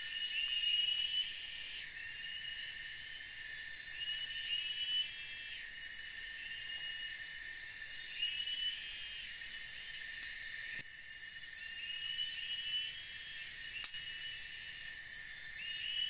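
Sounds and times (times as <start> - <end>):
insects buzzing: 0.0 - 16.0
whistling insect trill: 0.0 - 16.0.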